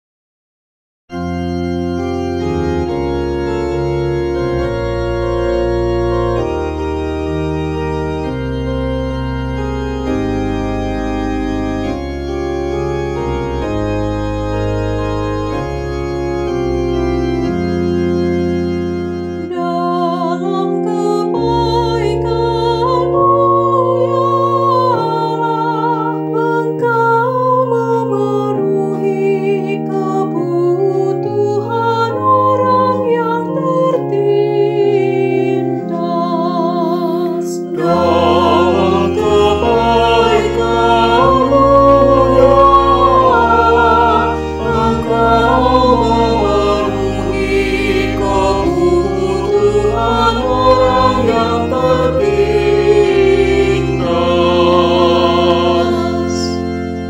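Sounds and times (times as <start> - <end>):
organ playing slow chords: 1.1 - 57.0.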